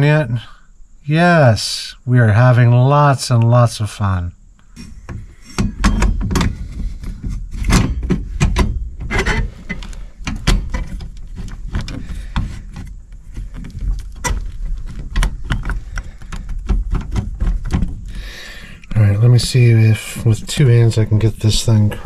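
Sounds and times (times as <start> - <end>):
low rumble of handling noise: 2.0 - 22.0.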